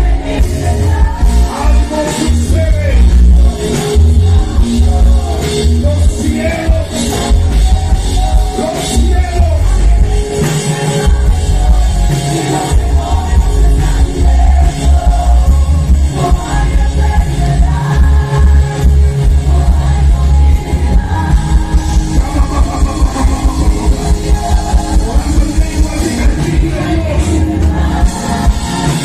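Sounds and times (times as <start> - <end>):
loud music with pounding bass: 0.0 - 29.0
person singing: 0.0 - 29.0.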